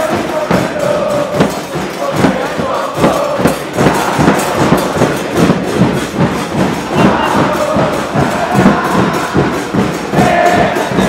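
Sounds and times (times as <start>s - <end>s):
crowd chanting in unison: 0.0s - 11.0s
drums beating: 0.0s - 11.0s.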